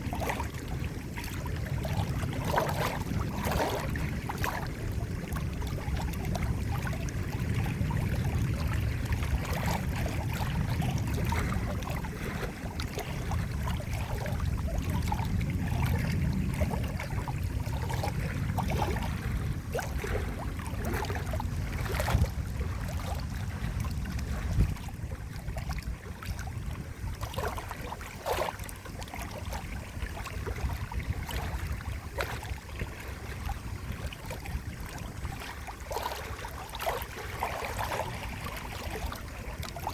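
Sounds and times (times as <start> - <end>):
running water rumble: 0.0 - 39.9
small splashes and drips: 0.1 - 39.9.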